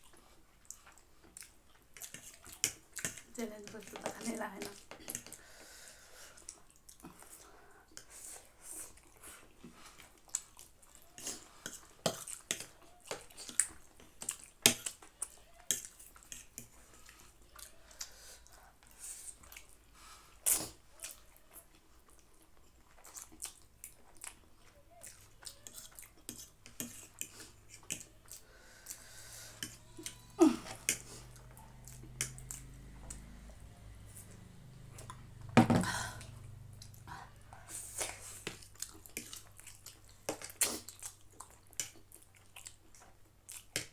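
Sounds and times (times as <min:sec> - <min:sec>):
people chewing and slurping: 0:00.0 - 0:43.9.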